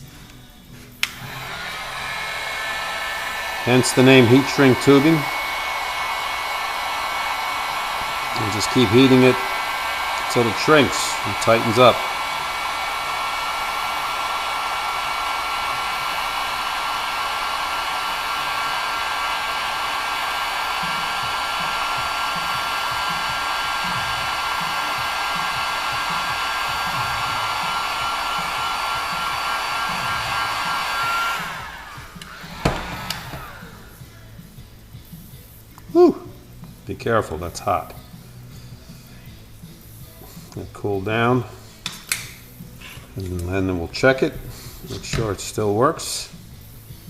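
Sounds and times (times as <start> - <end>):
heat gun blowing with fan whine: 0.0 - 47.0.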